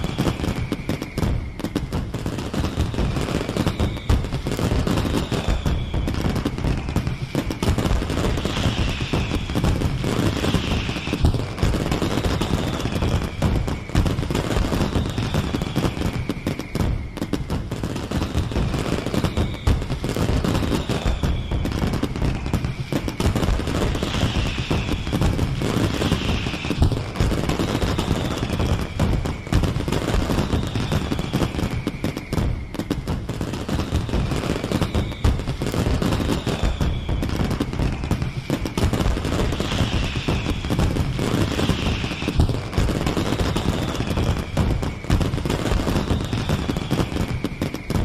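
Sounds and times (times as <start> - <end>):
fireworks bangs and crackling: 0.0 - 48.0
high falling whistle: 0.0 - 48.0.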